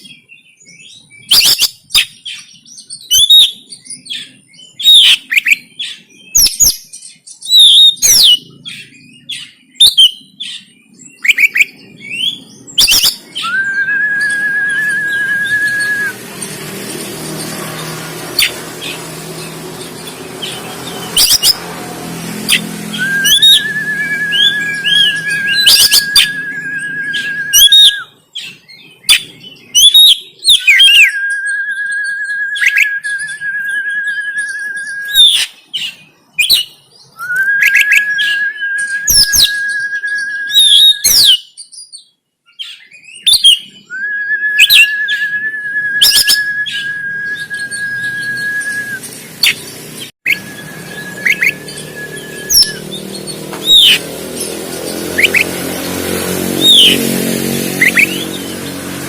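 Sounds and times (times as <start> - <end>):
bird whistling and chipping: 0.0 - 55.5, 56.6 - 58.8.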